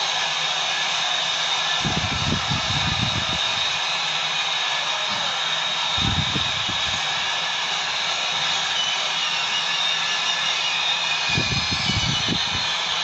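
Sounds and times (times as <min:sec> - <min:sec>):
stadium crowd screaming and cheering: 0:00.0 - 0:13.0.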